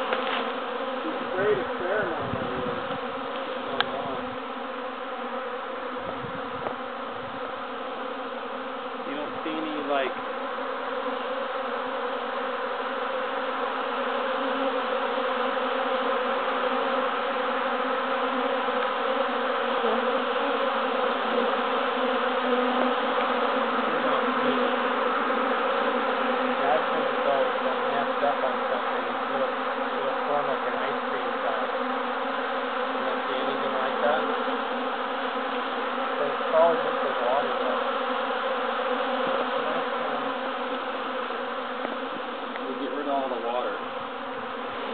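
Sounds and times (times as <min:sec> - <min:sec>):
bee swarm buzzing: 0:00.0 - 0:44.9
single bee flying past: 0:00.0 - 0:44.9.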